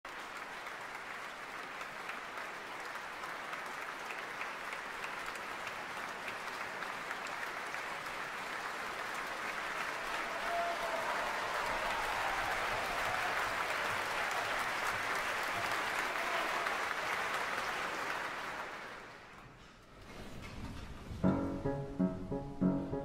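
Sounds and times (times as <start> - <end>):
audience applauding: 0.0 - 19.6.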